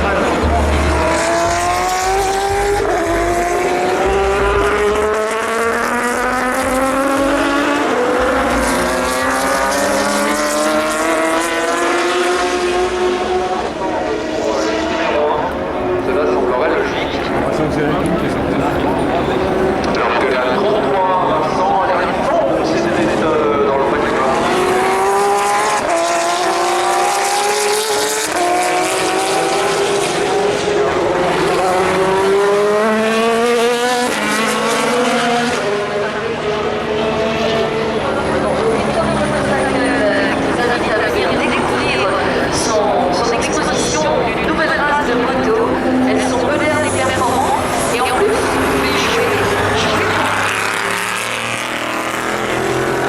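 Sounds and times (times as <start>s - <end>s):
race car engine accelerating: 0.0s - 53.0s.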